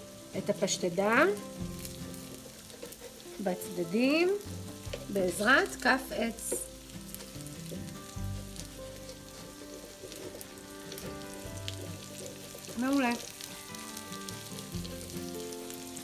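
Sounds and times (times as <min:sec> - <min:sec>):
food sizzling in oil: 0:00.0 - 0:16.0
wooden spatula scraping pan: 0:01.6 - 0:14.6.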